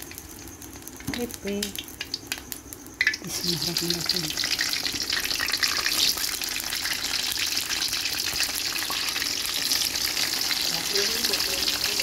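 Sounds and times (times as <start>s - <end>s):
tempe sizzling in hot oil: 0.0s - 12.0s.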